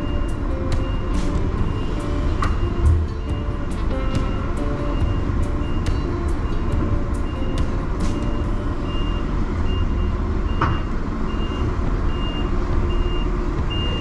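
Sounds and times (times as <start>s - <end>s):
heavy diesel engine running: 0.0s - 14.0s
reversing alarm beeping: 0.0s - 14.0s.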